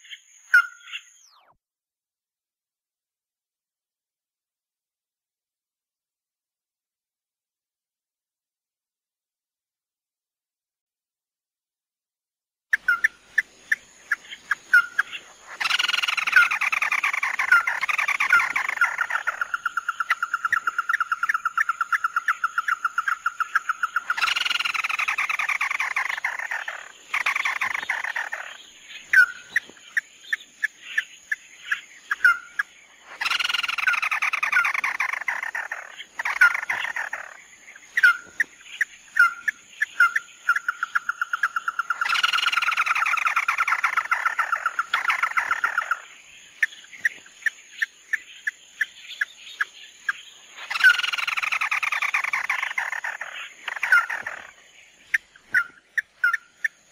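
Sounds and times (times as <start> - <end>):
crake trilled calls: 0.0 - 1.5, 12.7 - 56.9.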